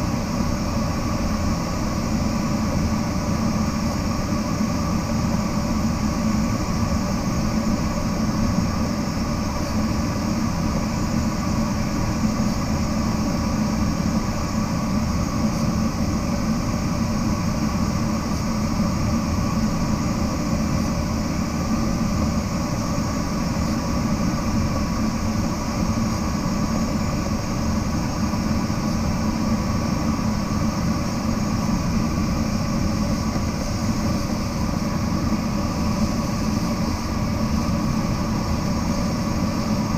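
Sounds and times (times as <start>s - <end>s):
air rushing around glider cockpit: 0.0s - 39.9s.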